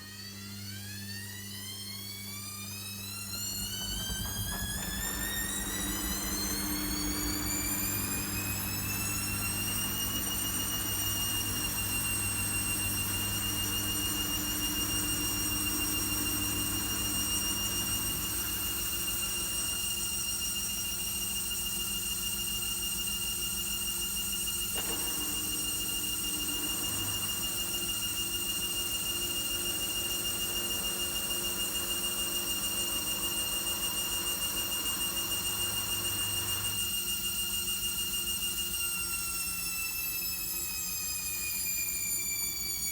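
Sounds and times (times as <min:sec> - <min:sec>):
washing machine motor whine: 0:00.0 - 0:42.9.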